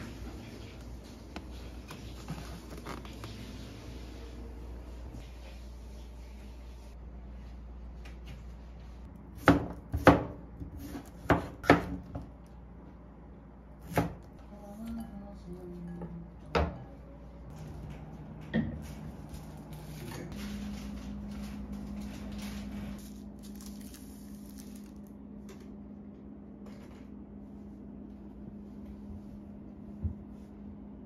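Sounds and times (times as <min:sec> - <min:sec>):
steady low hum: 0:03.5 - 0:31.0.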